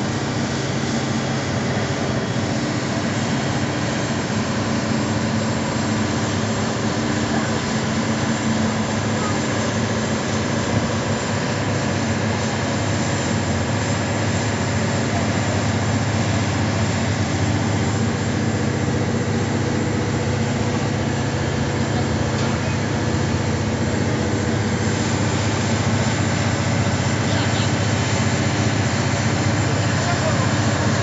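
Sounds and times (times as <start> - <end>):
ship engines droning: 0.0 - 31.0.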